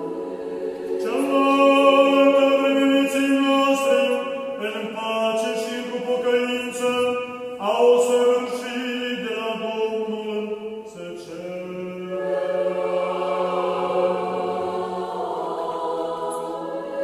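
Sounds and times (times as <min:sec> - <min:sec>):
choir chanting a hymn: 0:00.0 - 0:17.0.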